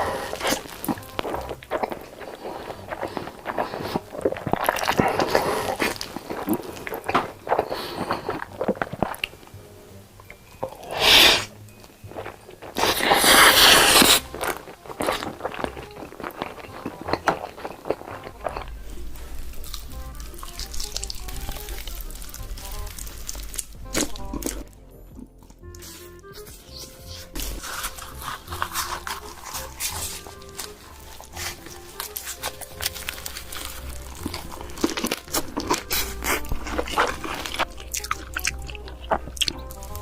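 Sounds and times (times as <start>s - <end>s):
background music: 0.0s - 40.0s
crunching and chewing food: 0.0s - 40.0s.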